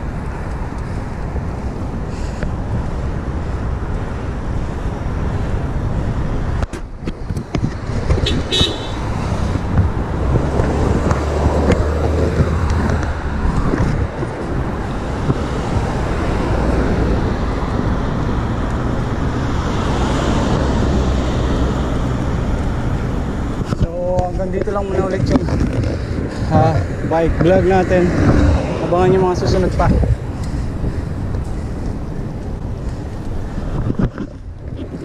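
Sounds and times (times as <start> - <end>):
cars passing: 0.0 - 35.0.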